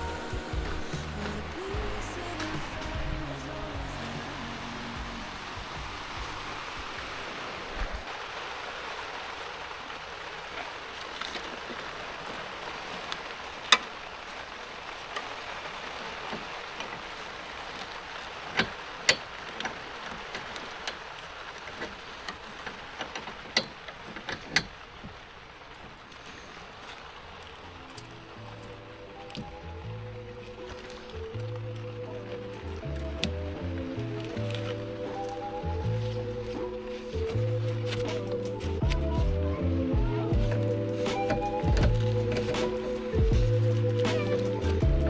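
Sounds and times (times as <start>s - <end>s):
rain hiss: 0.0s - 38.8s.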